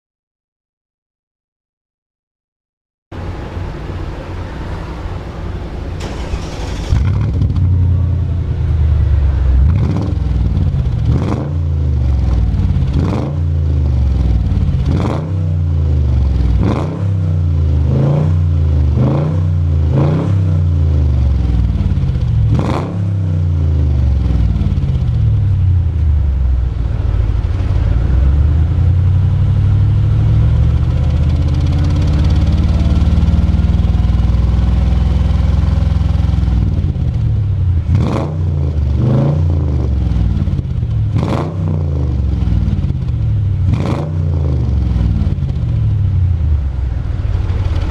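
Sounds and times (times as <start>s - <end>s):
car engine idling and revving: 3.2s - 47.9s.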